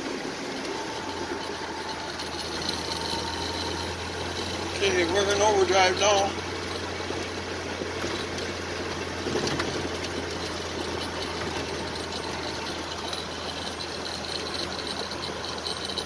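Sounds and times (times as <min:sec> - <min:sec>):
road and tyre noise: 0:00.0 - 0:16.0
truck engine drone: 0:00.0 - 0:16.0.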